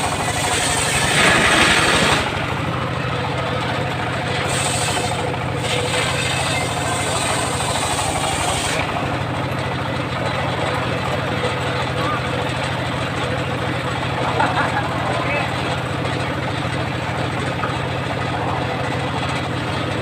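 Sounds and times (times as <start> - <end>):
sawmill engine idling: 0.0 - 20.0.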